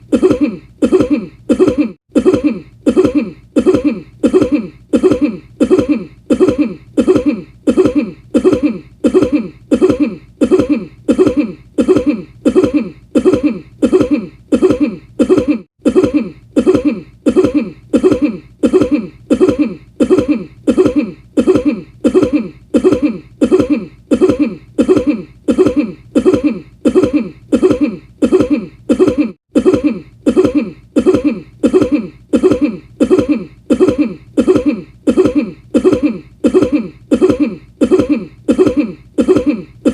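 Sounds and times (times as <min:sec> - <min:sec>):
person coughing: 0:00.0 - 0:39.9.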